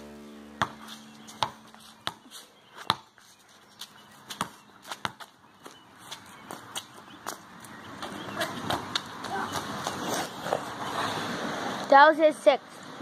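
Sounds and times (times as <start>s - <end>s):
basketball bouncing on asphalt: 0.0s - 10.6s.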